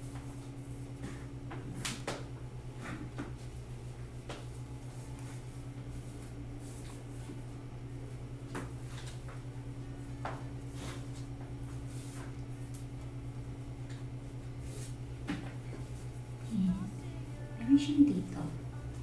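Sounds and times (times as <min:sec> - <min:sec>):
low pulsing hum: 0:00.0 - 0:19.0.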